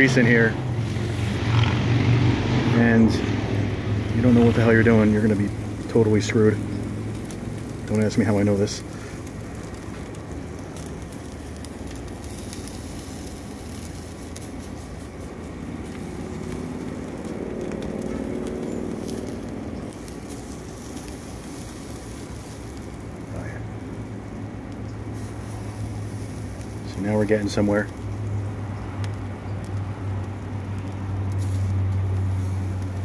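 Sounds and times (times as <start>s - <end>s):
charcoal fire rushing and crackling: 0.0s - 33.0s.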